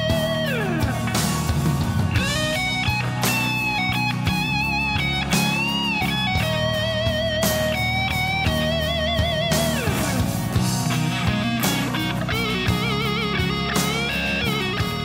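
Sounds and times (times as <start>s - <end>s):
electric guitar lead: 0.0s - 15.0s
low backing: 0.0s - 15.0s.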